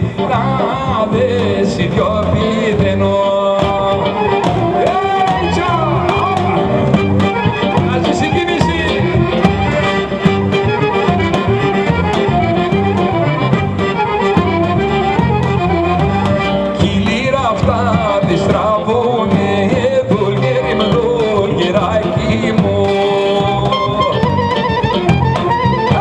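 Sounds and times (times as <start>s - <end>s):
accordion melody: 0.0s - 26.0s
bass drum beats: 0.0s - 26.0s.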